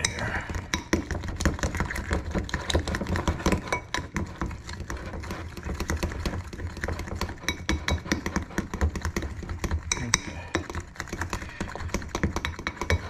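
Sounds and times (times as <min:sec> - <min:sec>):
whisk clicking against a bowl: 0:00.0 - 0:13.0.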